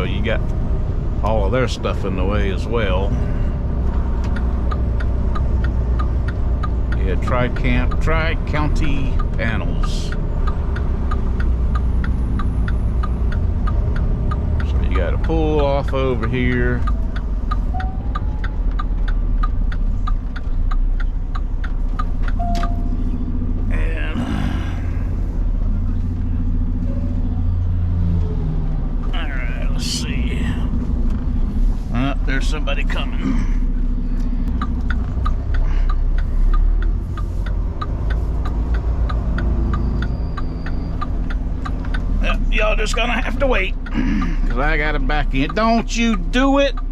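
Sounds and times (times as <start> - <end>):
diesel engine rumbling: 0.0 - 46.9
turn signal clicking: 0.2 - 46.9.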